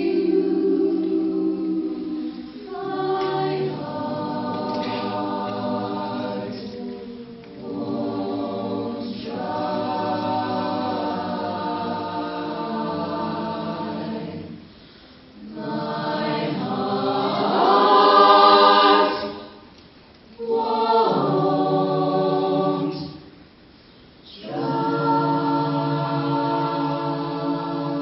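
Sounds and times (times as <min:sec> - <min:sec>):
choir singing a cappella: 0:00.0 - 0:19.7, 0:20.3 - 0:23.6, 0:24.2 - 0:28.0.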